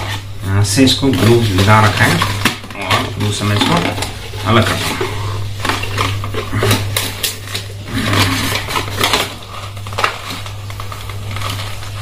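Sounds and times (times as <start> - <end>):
steady low hum: 0.0 - 12.0
cardboard and paper tearing: 1.0 - 12.0.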